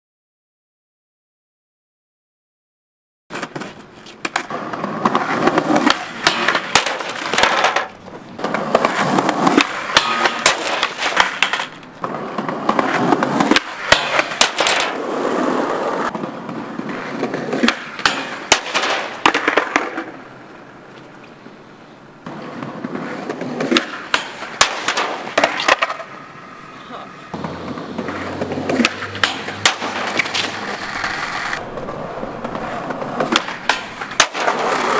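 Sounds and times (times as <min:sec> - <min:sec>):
skateboard clacking and slapping: 0:03.3 - 0:21.3, 0:22.2 - 0:26.2, 0:27.3 - 0:34.9
skateboard wheels rolling on pavement: 0:03.3 - 0:34.9.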